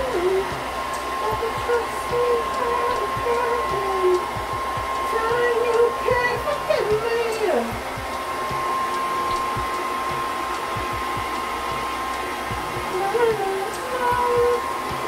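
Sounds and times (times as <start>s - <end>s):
blow dryer running: 0.0s - 15.0s.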